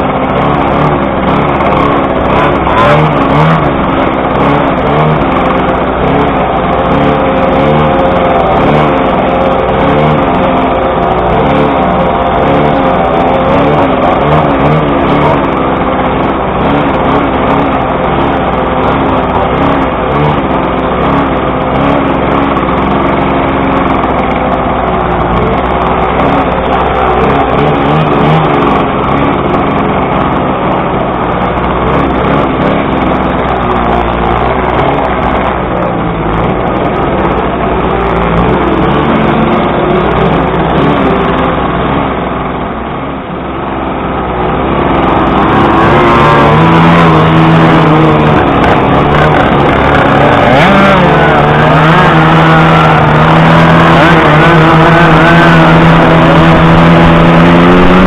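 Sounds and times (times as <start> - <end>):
moped engines revving: 0.0 - 58.0.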